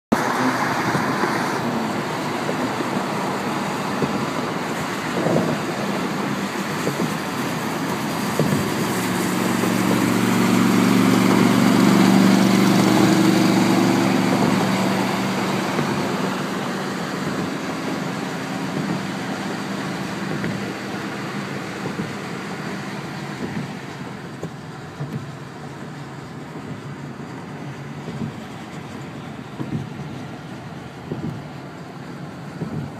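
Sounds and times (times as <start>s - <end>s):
road and tyre noise: 0.1s - 32.9s.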